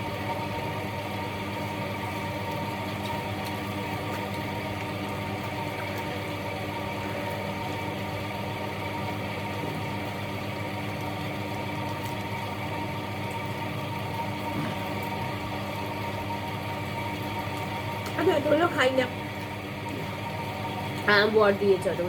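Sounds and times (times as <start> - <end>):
steady motor hum: 0.0 - 22.0.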